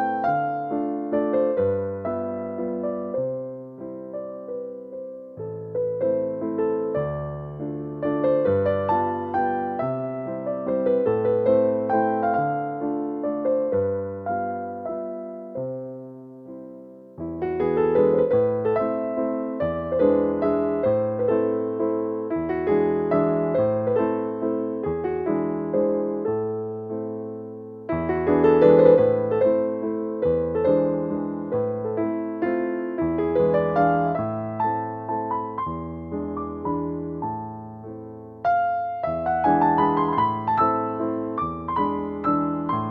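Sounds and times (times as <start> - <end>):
soft piano music: 0.0 - 42.9.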